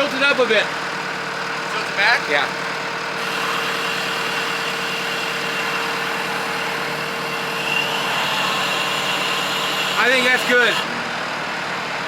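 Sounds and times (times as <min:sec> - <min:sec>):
steady high whine: 0:00.0 - 0:12.0
tractor engine running: 0:00.0 - 0:12.0.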